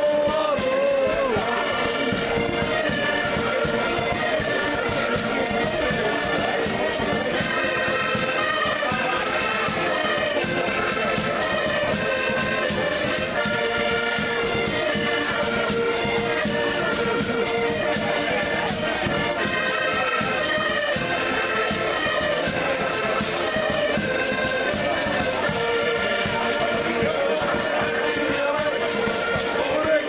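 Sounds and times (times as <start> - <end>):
button accordions playing: 0.0 - 30.0
drum beat: 0.0 - 30.0.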